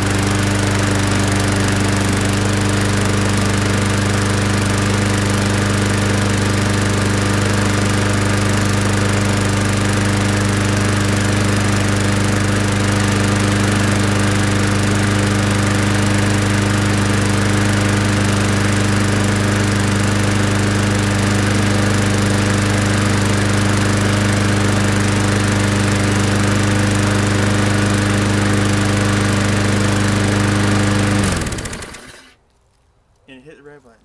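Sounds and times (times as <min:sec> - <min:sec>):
lawnmower engine running: 0:00.0 - 0:32.4.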